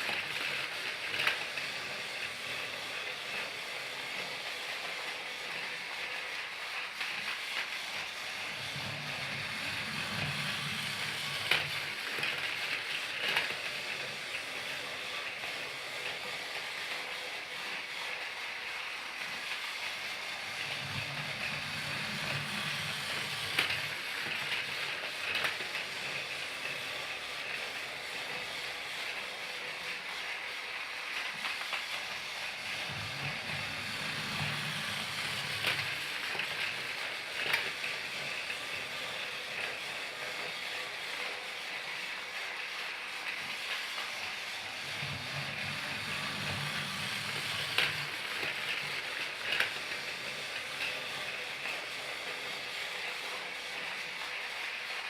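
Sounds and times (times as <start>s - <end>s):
toy train hissing: 0.0s - 55.0s.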